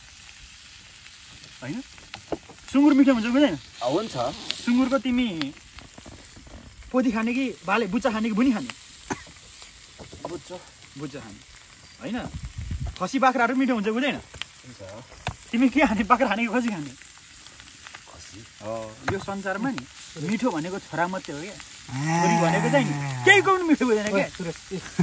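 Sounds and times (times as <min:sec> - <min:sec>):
food sizzling over fire: 0:00.0 - 0:25.0.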